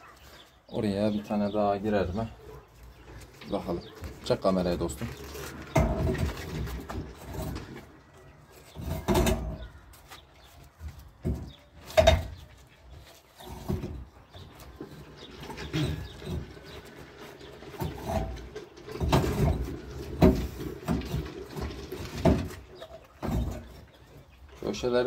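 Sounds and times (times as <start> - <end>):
stones knocking and scraping in mortar: 3.0 - 12.4, 13.3 - 24.2.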